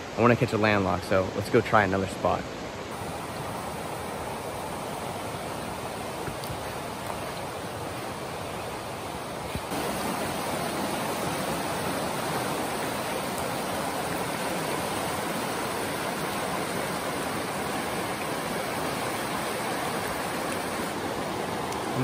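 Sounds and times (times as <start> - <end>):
river rapids rushing over rocks: 0.3 - 22.0.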